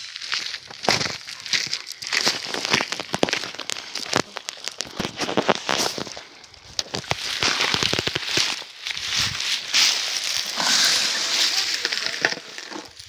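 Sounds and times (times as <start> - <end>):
footsteps through dry grass: 0.0 - 13.0.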